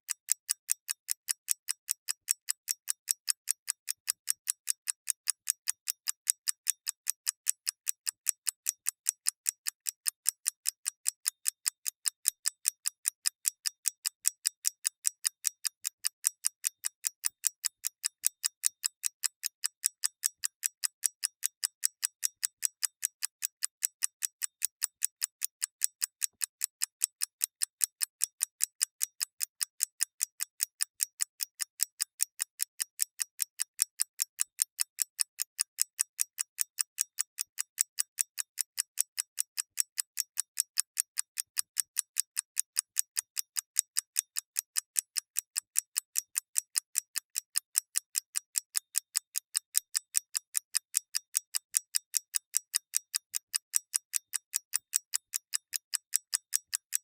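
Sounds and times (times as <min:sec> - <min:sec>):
mechanical clock ticking: 0:00.1 - 0:57.0.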